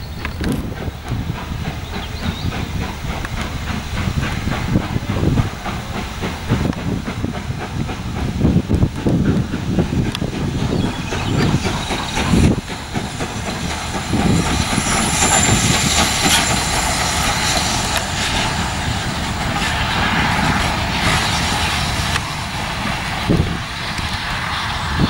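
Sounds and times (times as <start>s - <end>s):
steam hiss: 0.0s - 25.0s
steam train passing: 0.0s - 25.0s
train wheels on rails: 0.0s - 25.0s.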